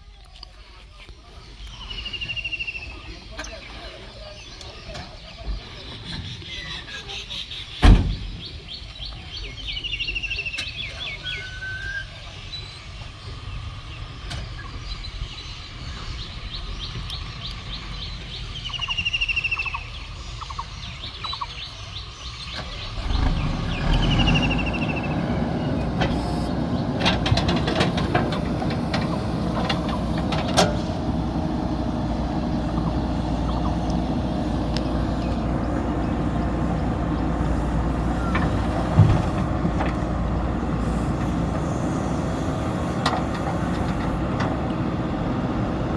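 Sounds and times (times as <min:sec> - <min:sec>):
birds chirping: 0:00.0 - 0:45.9
diesel engine rumble: 0:00.0 - 0:45.9.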